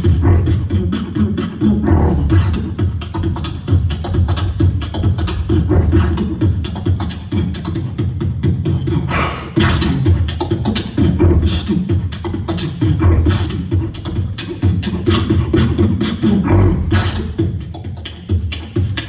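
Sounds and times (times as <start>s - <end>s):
person beatboxing: 0.0s - 19.0s.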